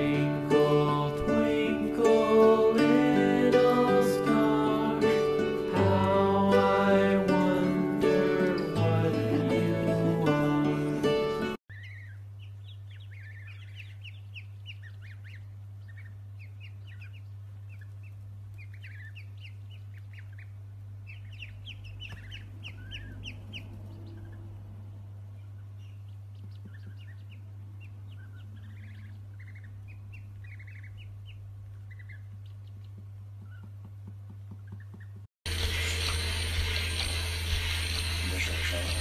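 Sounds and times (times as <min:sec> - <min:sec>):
ducklings and goslings peeping: 0:00.0 - 0:39.0
steady low hum: 0:00.0 - 0:39.0.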